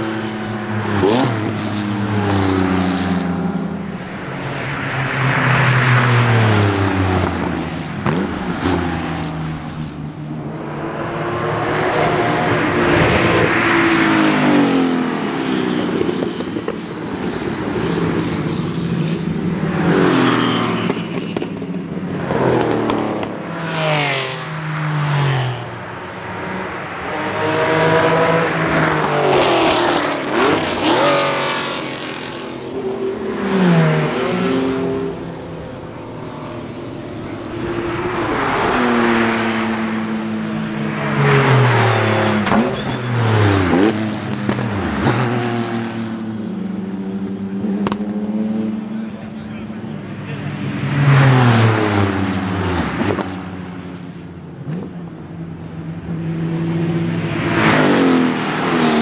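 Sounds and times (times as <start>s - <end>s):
racing cars passing at speed: 0.0s - 59.0s.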